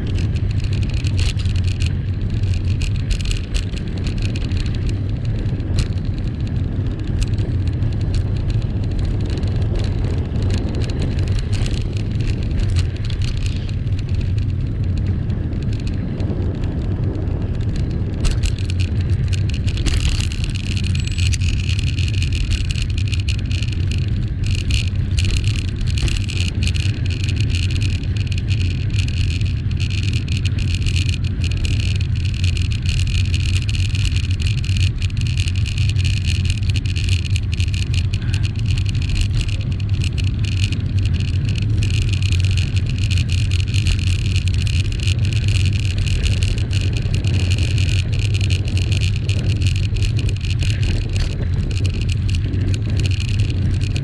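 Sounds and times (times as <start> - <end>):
bicycle tyre noise on road: 0.0 - 54.0
wind on microphone: 0.0 - 54.0.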